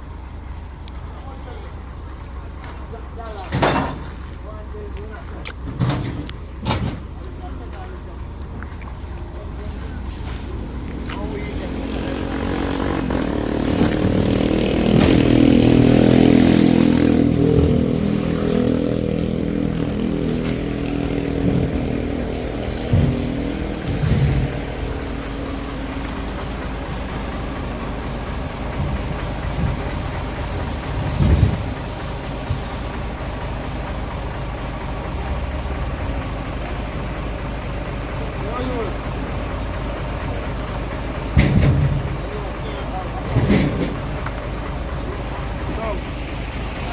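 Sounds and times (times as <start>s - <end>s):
motor vehicle engine running: 0.0s - 46.9s.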